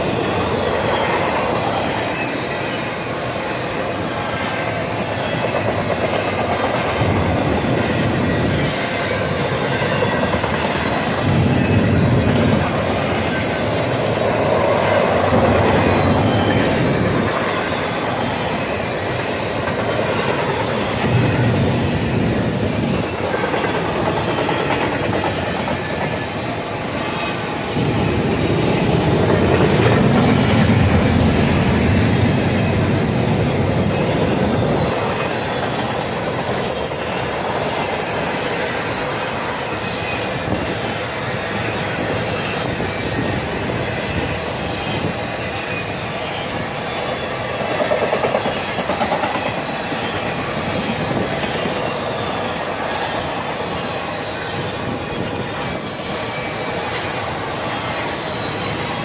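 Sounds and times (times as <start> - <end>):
clickety-clack over rail joints: 0.0 - 59.0
train wheels rumbling on rail: 0.0 - 59.0.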